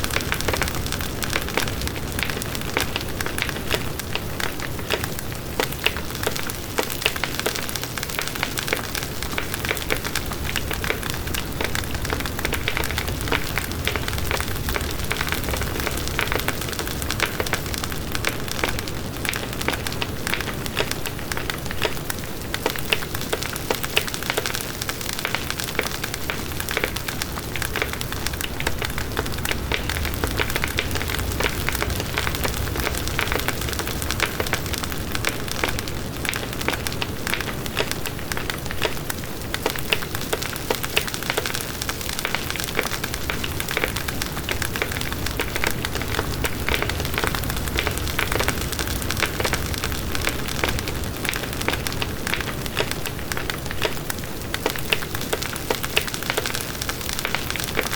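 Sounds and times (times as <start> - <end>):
fire crackling and popping: 0.0 - 57.9.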